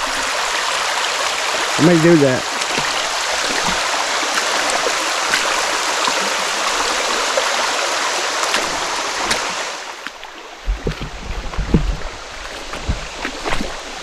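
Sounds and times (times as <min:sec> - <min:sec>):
water rushing over waterfall: 0:00.0 - 0:14.0.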